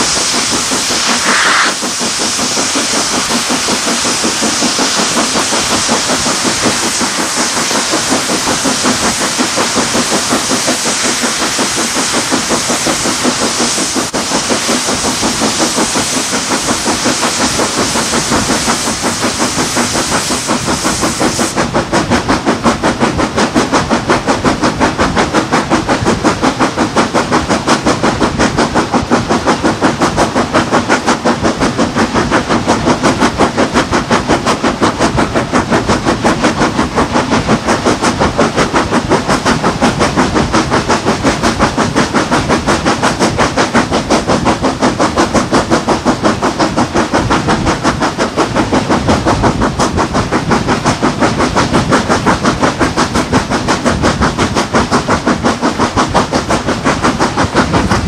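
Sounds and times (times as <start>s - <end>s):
steam hissing: 0.0s - 58.0s
steam locomotive exhaust beats: 0.0s - 58.0s
train running noise: 0.0s - 58.0s.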